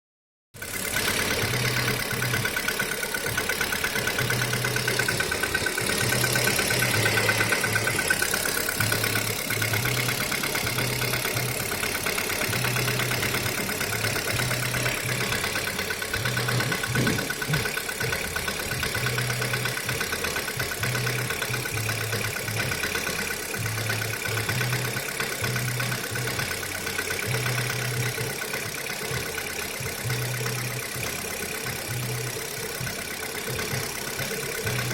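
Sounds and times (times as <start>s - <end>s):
car engine idling with knocking tick: 0.6s - 34.9s.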